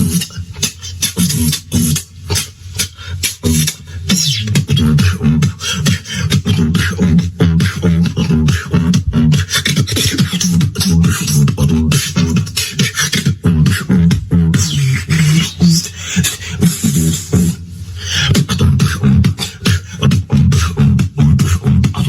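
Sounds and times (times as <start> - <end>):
person beatboxing: 0.0 - 22.0.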